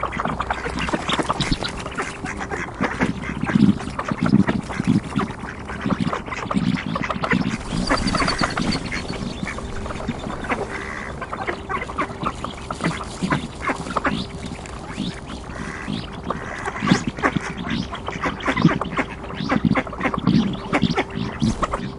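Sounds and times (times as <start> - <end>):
ducks quacking: 0.0 - 21.9.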